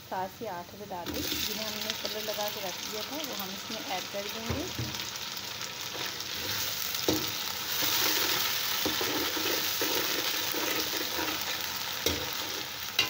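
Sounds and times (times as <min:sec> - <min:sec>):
vegetables sizzling in hot oil: 0:01.0 - 0:13.0.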